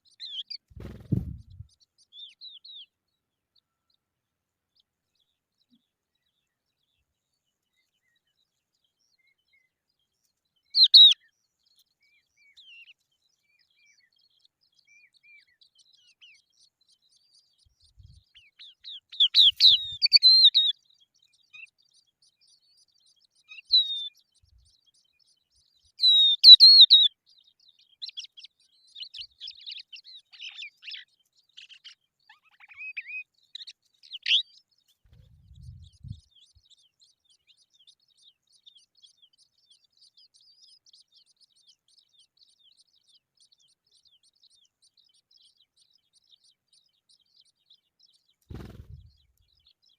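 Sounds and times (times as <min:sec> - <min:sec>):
skylarks chirping: 0:00.0 - 0:04.0, 0:04.7 - 0:49.9.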